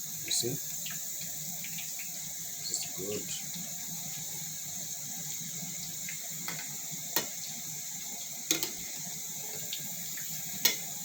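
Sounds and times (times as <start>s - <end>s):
fries sizzling in hot oil: 0.0s - 11.0s.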